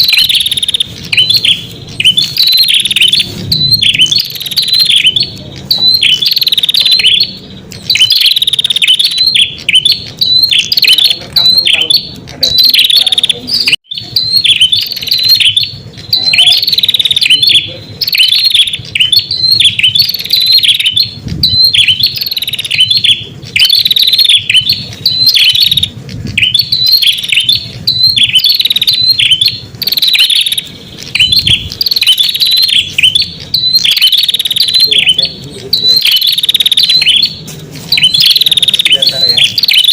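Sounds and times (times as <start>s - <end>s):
bird song lure call: 0.0s - 39.9s.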